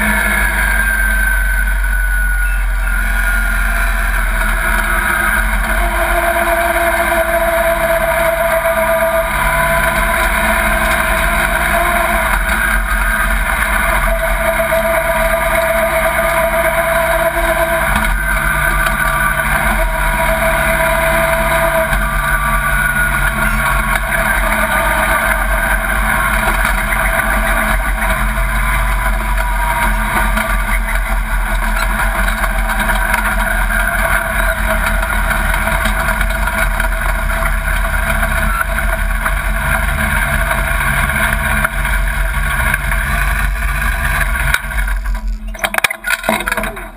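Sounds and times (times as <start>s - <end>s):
racing truck engine running: 0.0s - 46.9s
road and wind noise: 0.0s - 46.9s.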